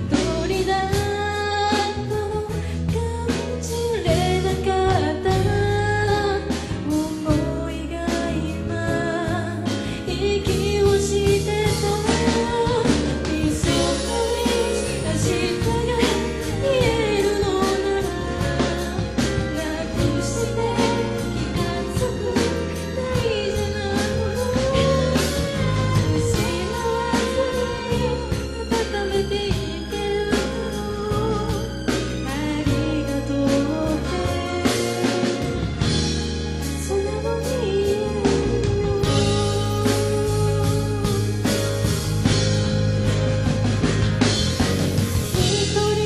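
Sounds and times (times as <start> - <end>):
band accompaniment: 0.0 - 46.0
woman singing pop ballad: 0.0 - 46.0.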